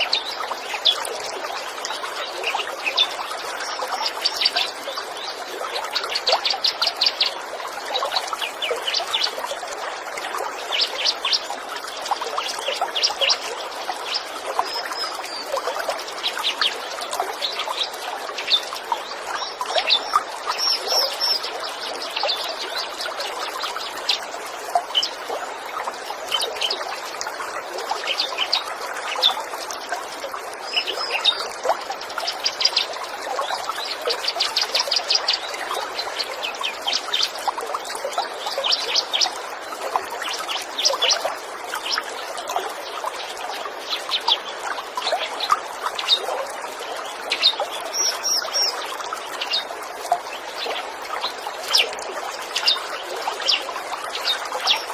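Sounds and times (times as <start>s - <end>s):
songbirds trilling and chirping: 0.0s - 54.9s
stream trickling and babbling: 0.0s - 54.9s.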